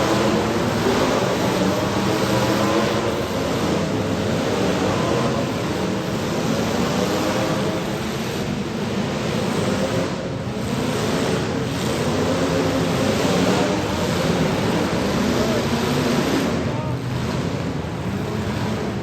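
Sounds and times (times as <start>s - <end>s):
car engines running: 0.0s - 19.0s
steady rushing noise: 0.0s - 19.0s.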